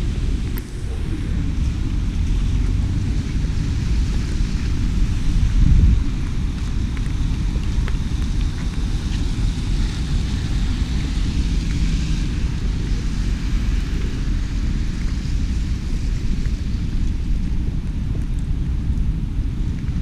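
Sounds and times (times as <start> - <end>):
heavy low rumble: 0.0 - 20.0
steady rain hiss: 0.0 - 20.0.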